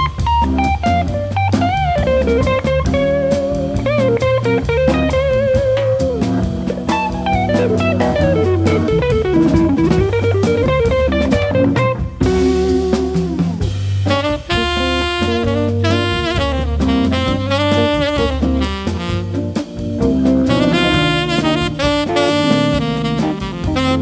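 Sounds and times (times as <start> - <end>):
bass: 0.0 - 24.0
drum kit keeping time: 0.0 - 24.0
electric guitar solo: 0.0 - 24.0
organ chords: 0.0 - 24.0.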